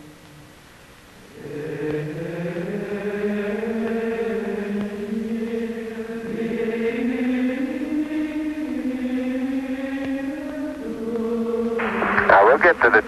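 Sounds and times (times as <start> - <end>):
slow wordless choral chords: 1.1 - 13.0.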